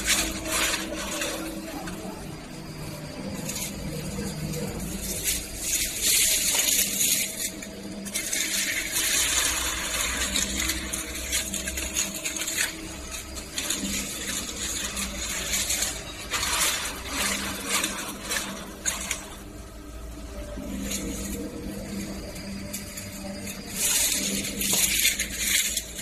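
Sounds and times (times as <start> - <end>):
metal tubes clinking and rattling: 0.0 - 26.0
steady machine hum: 0.0 - 26.0.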